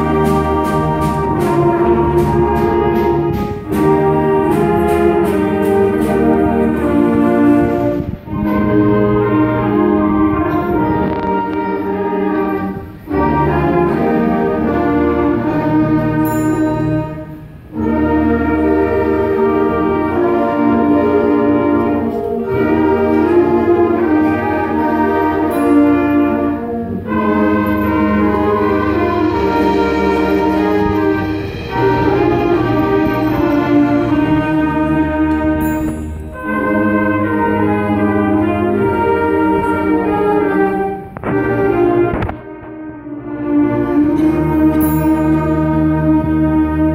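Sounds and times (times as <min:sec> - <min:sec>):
wind band with clarinets playing: 0:00.0 - 0:46.9.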